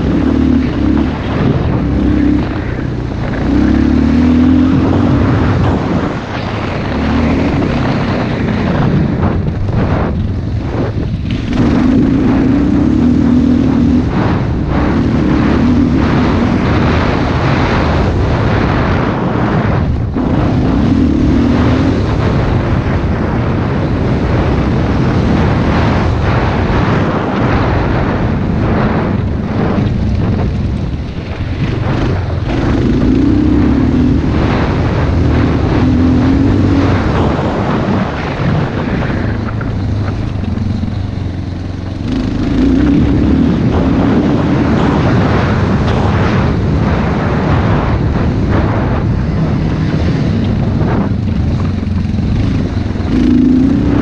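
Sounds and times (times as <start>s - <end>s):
motocross bike engine revving: 0.0s - 54.0s
wind on microphone: 0.0s - 54.0s.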